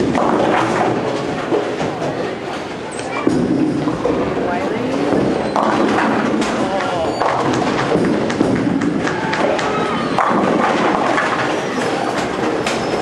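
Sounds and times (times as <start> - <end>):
bowling balls rolling and thudding: 0.0 - 13.0
background chatter: 1.0 - 8.3, 9.0 - 13.0.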